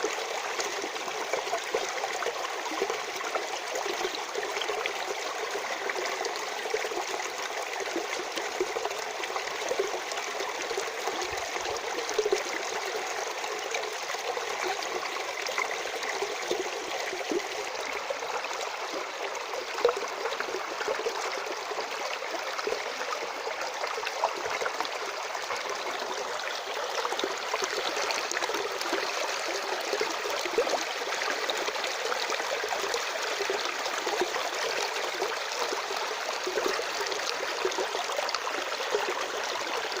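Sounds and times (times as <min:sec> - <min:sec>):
stream of water flowing: 0:00.0 - 0:40.0.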